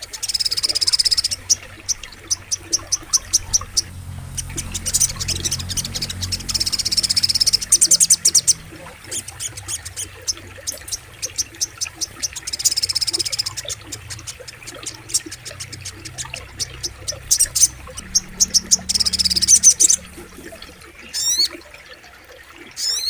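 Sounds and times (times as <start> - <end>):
low steady rumble: 0.0 - 21.4.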